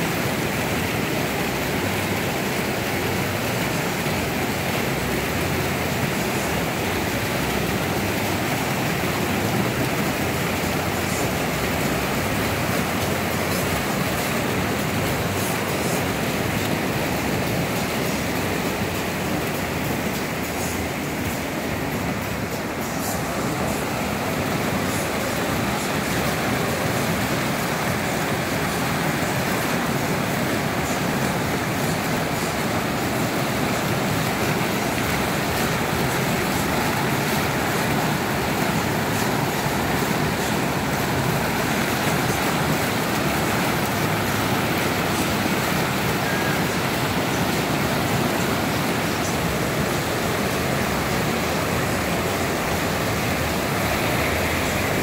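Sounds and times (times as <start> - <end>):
waterfall pouring and splashing: 0.0 - 55.0.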